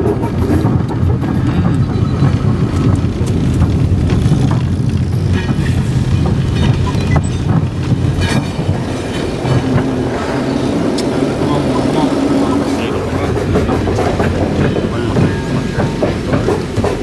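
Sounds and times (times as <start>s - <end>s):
rail vehicle engine drone: 0.0s - 17.0s
wheels knocking and clanking on rails: 0.0s - 17.0s.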